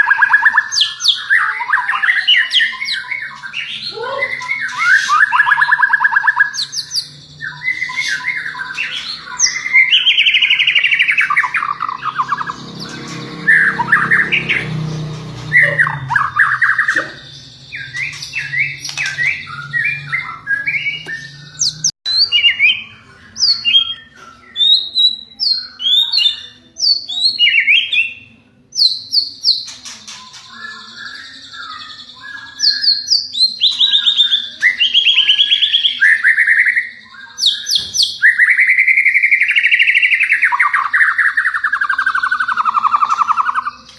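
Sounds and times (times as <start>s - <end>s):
songbird singing trills and whistles: 0.0s - 43.9s.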